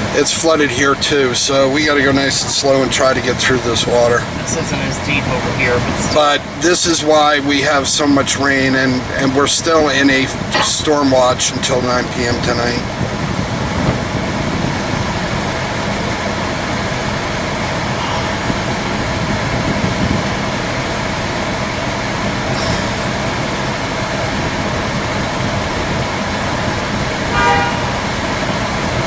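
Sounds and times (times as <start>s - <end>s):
van engine running: 0.0s - 29.0s
water rushing under tyres: 0.0s - 29.0s.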